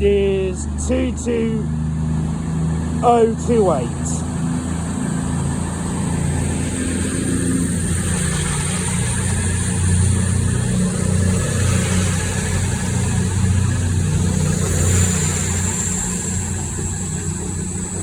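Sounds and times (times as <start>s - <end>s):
train diesel engines droning: 0.0s - 18.0s.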